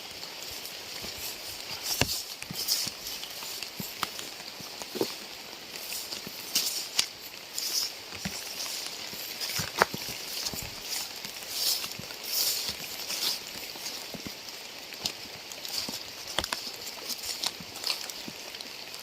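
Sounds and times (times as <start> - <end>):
rain hissing: 0.0 - 19.0
raindrops tapping close by: 0.0 - 19.0.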